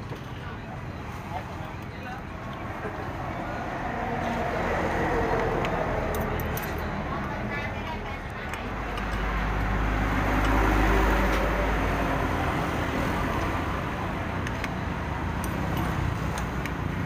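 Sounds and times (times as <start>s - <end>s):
vehicle passing on road: 3.0s - 17.0s.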